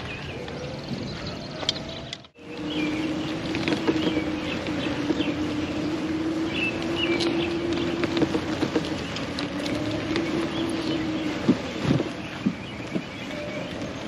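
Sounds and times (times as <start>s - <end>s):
birds chirping: 0.0s - 14.0s
motor whining: 0.3s - 14.0s.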